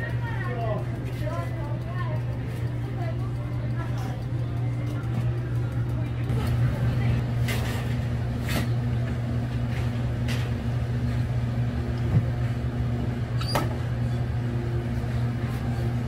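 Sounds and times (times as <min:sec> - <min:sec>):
electrical hum of machinery: 0:00.0 - 0:16.0.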